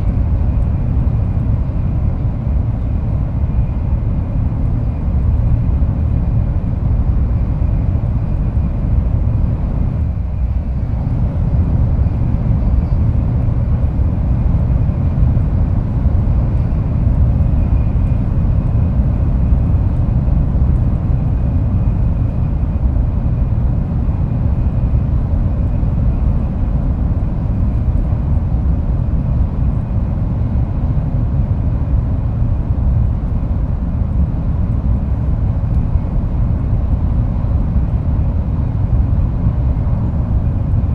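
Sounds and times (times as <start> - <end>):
train rumble and rush: 0.0 - 40.9.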